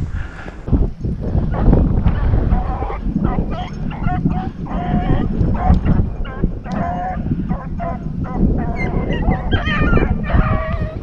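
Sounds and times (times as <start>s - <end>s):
low wind rumble: 0.0s - 11.0s
hounds baying: 1.3s - 11.0s.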